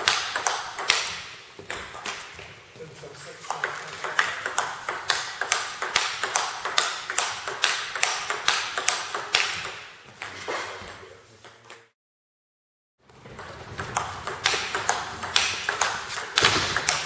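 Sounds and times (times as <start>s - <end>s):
table tennis ball hits: 0.0s - 2.6s, 3.4s - 11.9s, 13.1s - 17.0s.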